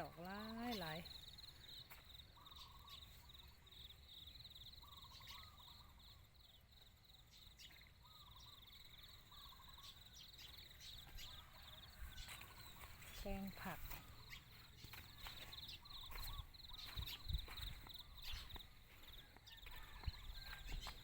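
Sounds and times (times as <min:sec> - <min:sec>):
lower chirping calls: 0:00.0 - 0:06.6, 0:07.3 - 0:21.0
insects trilling: 0:00.0 - 0:21.0.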